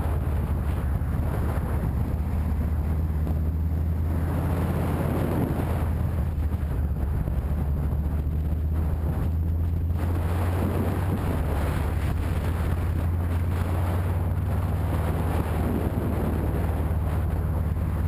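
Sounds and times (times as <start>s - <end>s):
motorcycle engine cruising: 0.0s - 18.0s
wind on microphone: 0.0s - 18.0s.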